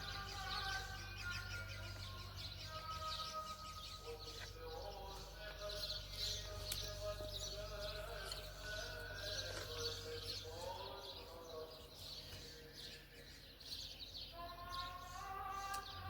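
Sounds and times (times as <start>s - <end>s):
birds chirping: 0.0s - 16.0s
faint distant voices: 0.0s - 16.0s.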